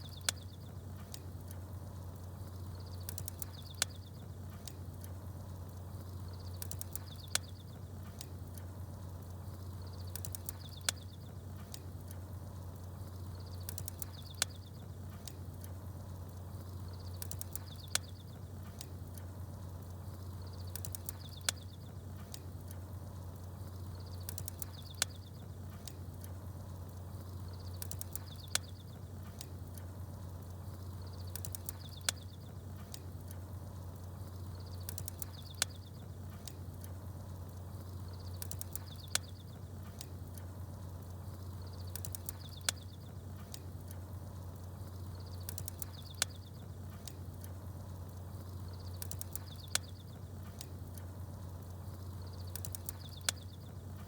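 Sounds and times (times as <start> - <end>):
crackling wood fire: 0.0 - 54.0
small birds chirping: 0.0 - 54.0
steady low hum: 0.0 - 54.0.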